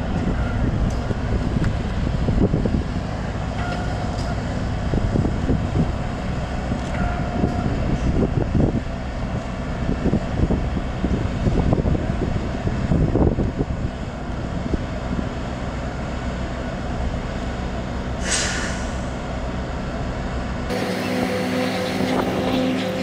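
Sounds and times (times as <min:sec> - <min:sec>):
wind buffeting microphone: 0:00.0 - 0:16.5, 0:20.8 - 0:23.0
low diesel rumble: 0:00.0 - 0:23.0.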